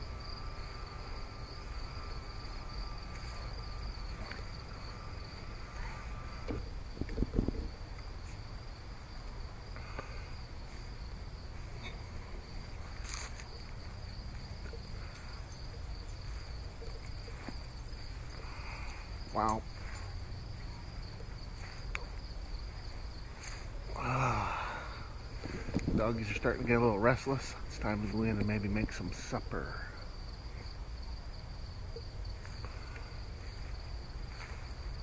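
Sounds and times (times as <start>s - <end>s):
crickets trilling: 0.0s - 35.0s
low outdoor hum: 0.0s - 35.0s.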